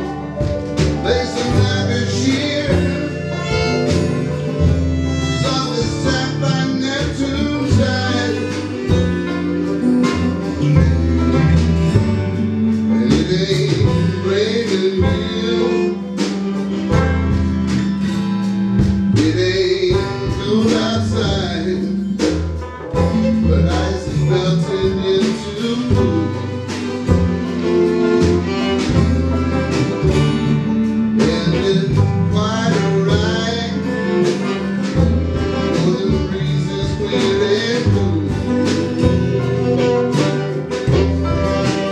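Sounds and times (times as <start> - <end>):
band playing country music: 0.0 - 41.9.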